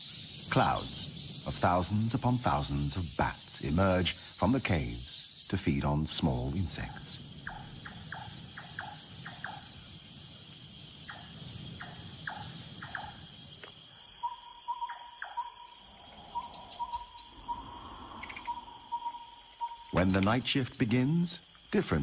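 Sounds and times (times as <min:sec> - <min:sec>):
crickets chirping: 0:00.0 - 0:22.0
repeated short insect note: 0:00.0 - 0:22.0.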